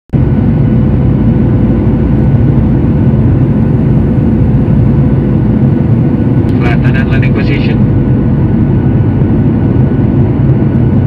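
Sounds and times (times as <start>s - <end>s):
jet engine and airflow rumble: 0.1s - 11.0s
faint steady whine: 0.2s - 11.0s.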